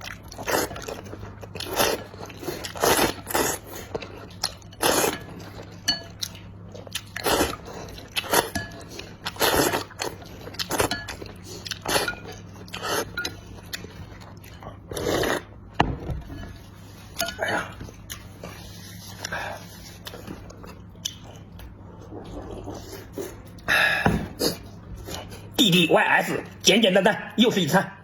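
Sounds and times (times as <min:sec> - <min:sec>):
wet chewing and crunching: 0:00.0 - 0:15.9, 0:17.1 - 0:23.7
steady low hum: 0:00.0 - 0:28.0.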